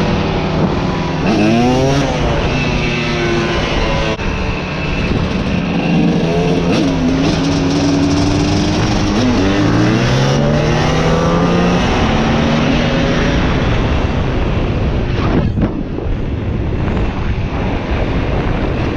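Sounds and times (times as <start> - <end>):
car engines revving: 0.0 - 18.8.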